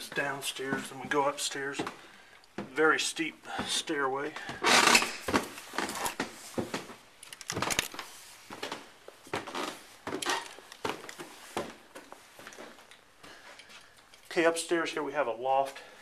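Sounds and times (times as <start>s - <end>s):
footsteps on stairs: 0.0s - 7.7s, 8.5s - 13.9s.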